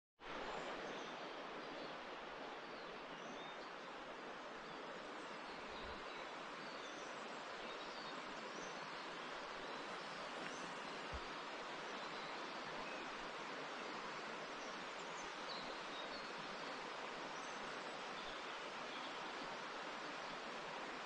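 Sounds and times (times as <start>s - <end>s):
forest rushing hiss: 0.3s - 21.0s.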